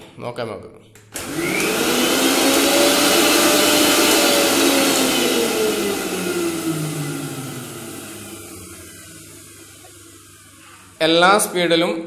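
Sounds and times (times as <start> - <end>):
mixer grinder motor whirring: 1.2 - 11.2.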